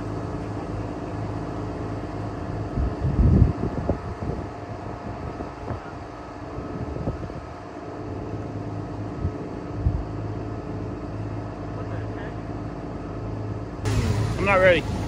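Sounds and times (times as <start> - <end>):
lift truck engine running: 0.0 - 15.0.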